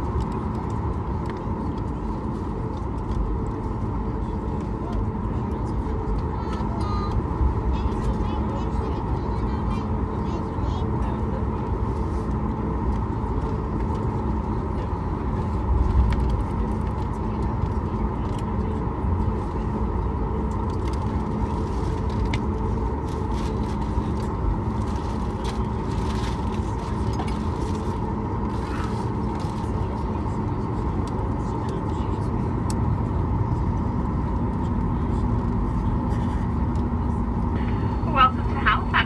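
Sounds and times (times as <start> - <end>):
aircraft engines and cabin air drone: 0.0 - 39.0
wheels rumbling: 0.0 - 39.0.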